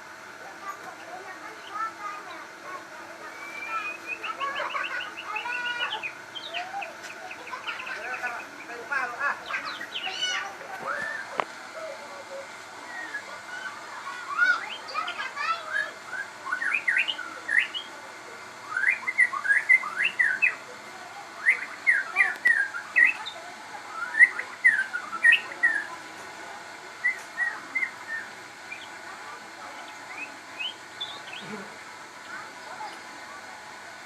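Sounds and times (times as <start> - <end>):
songbird singing: 3.2 - 26.0, 27.0 - 33.2.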